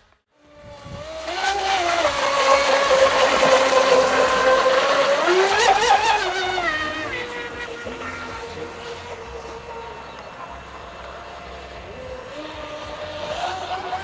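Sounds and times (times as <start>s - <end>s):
boat motor high whine: 0.1s - 14.0s.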